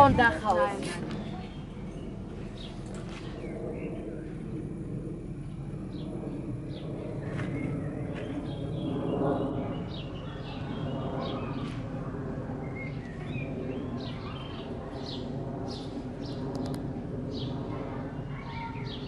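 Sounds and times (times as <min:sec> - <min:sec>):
small birds chirping: 0:00.0 - 0:04.8, 0:05.4 - 0:11.9, 0:12.6 - 0:19.0
low background rumble: 0:00.0 - 0:19.0.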